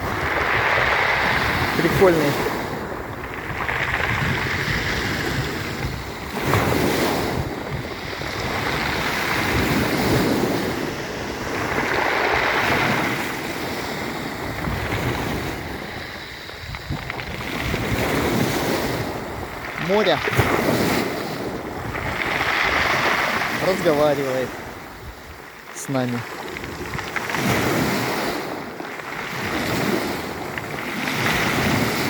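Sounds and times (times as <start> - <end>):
waves breaking on pebble beach: 0.0 - 32.0.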